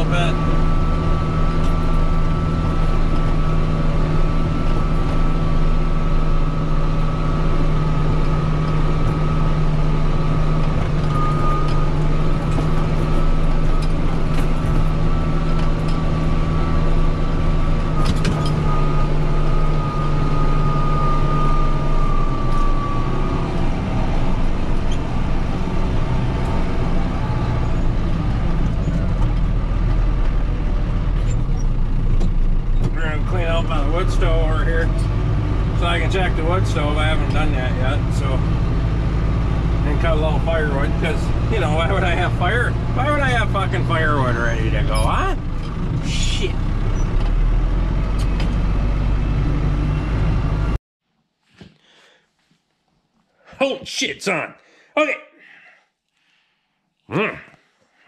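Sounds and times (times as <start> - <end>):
tractor diesel engine running: 0.0 - 50.8.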